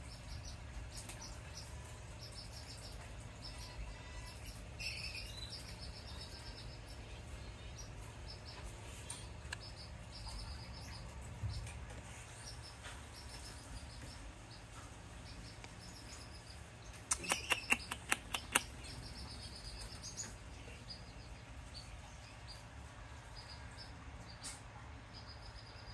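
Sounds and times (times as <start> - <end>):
bird chick peeping: 0.0 - 25.9.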